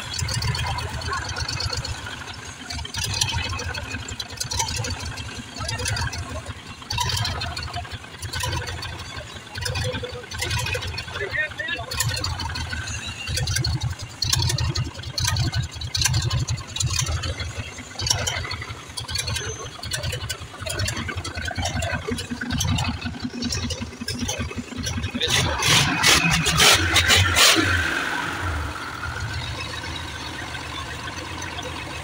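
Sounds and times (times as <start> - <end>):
diesel engine rumbling: 0.0 - 32.0
sharp clicks and rattles: 0.0 - 32.0.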